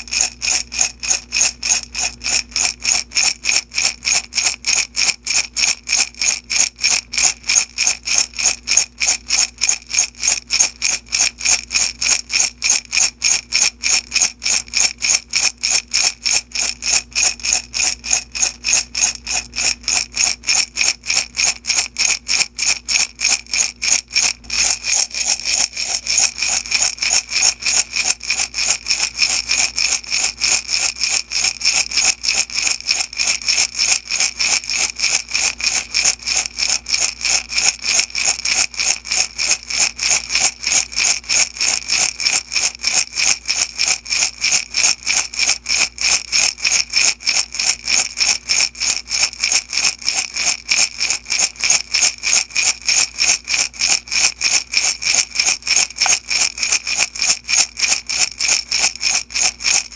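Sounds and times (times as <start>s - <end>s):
beads rattling in glass jar: 0.0s - 59.9s.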